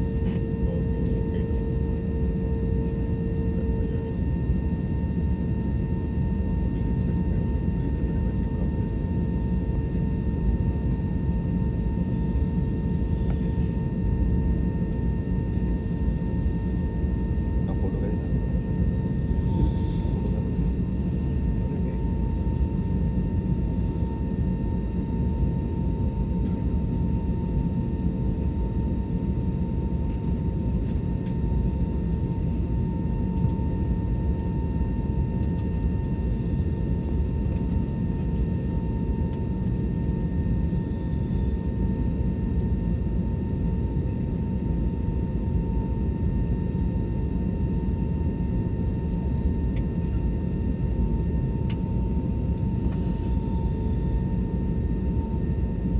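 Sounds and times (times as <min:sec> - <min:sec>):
jet engine rumble: 0:00.0 - 0:55.9.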